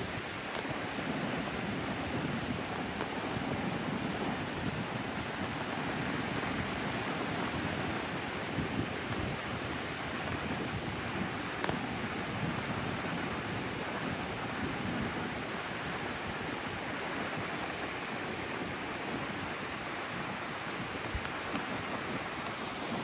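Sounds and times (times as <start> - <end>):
rough ocean surf breaking: 0.0 - 23.0.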